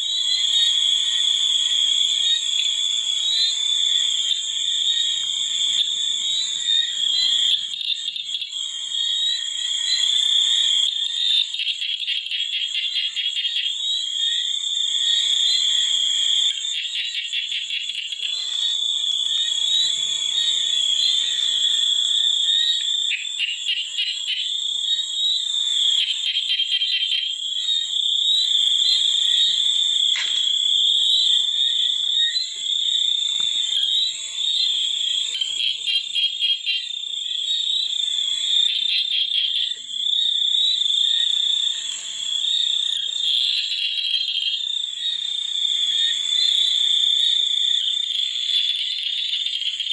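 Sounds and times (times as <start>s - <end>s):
frogs and insects trilling: 0.0s - 49.9s
rapid pulsed frog calls: 0.0s - 49.9s.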